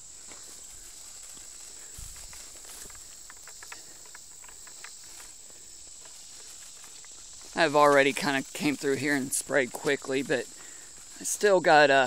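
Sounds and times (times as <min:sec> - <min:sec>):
footsteps through tall grass: 0:00.0 - 0:12.0
high insect trill: 0:00.0 - 0:12.0.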